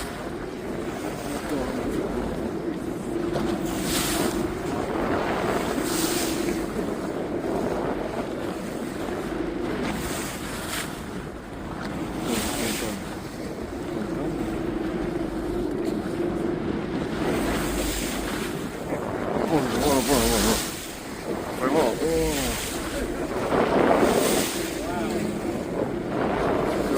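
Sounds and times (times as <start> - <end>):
boat engine running: 0.0 - 26.9
water splashing against hull: 0.0 - 26.9
wind buffeting microphone: 0.0 - 26.9.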